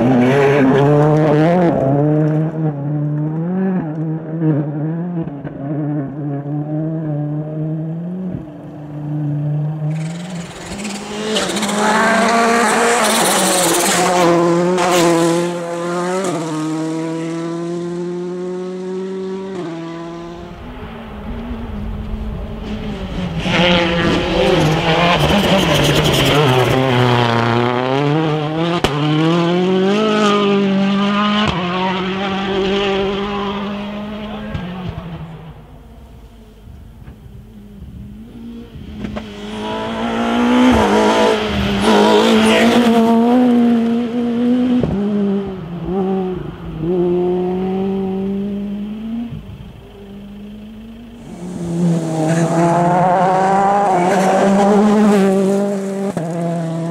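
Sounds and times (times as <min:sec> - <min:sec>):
car engine slowing and accelerating: 0:00.0 - 0:56.9
rally car engine revving: 0:00.0 - 0:56.9.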